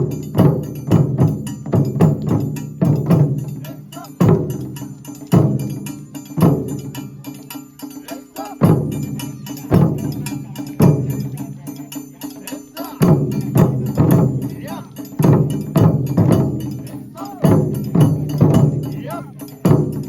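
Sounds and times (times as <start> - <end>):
taiko drum beats: 0.0 - 20.0.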